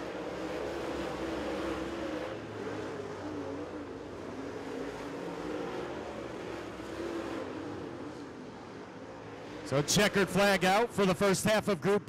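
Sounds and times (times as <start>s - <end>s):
race car engine revving: 0.0s - 8.3s, 9.3s - 11.7s.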